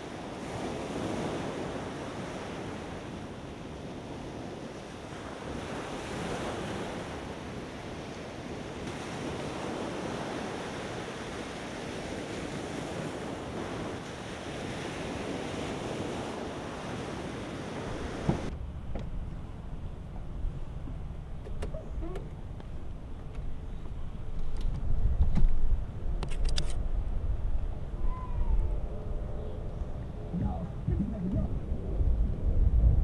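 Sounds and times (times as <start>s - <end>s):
ocean surf washing: 0.0s - 26.1s, 26.8s - 33.0s
wind on microphone: 0.0s - 33.0s.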